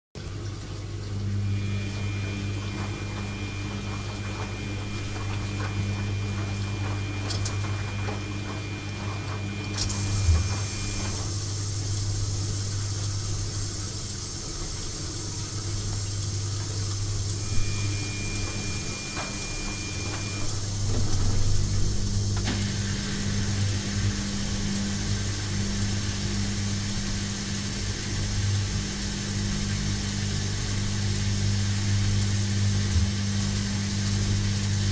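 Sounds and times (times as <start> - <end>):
washing machine motor hum: 0.2 - 34.9
washing machine hiss: 0.3 - 34.9.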